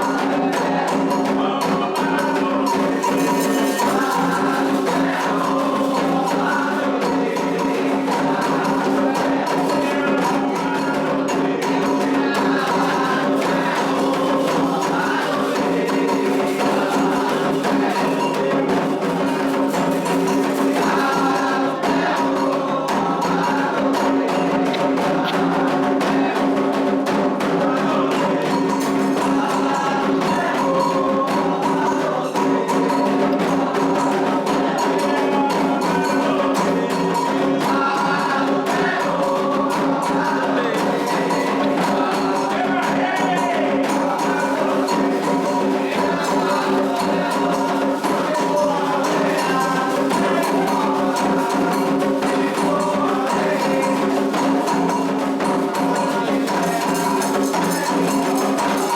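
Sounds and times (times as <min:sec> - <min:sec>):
clacking struck percussion: 0:00.0 - 0:58.9
group singing: 0:00.0 - 0:58.9
hand drumming: 0:00.0 - 0:58.9.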